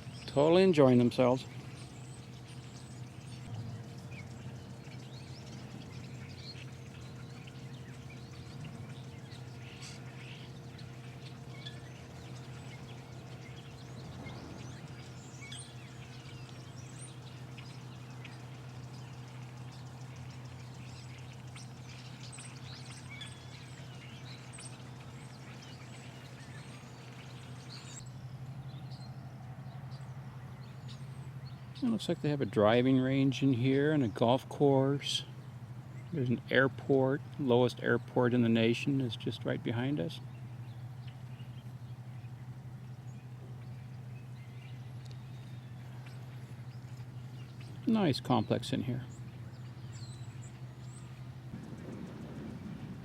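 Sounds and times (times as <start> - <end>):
small birds chirping: 0.0 - 53.0
steady low hum: 0.0 - 53.0.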